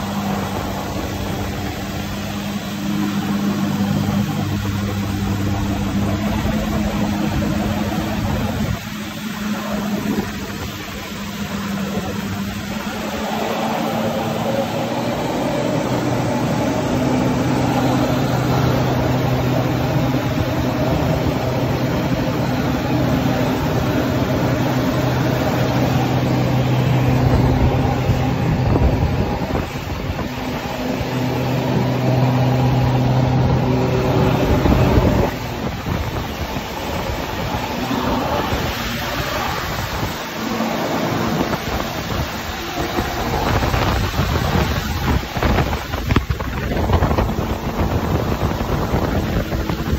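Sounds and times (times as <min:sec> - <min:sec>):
jet ski engine hum: 0:00.0 - 0:49.9
rushing water and spray: 0:00.0 - 0:49.9.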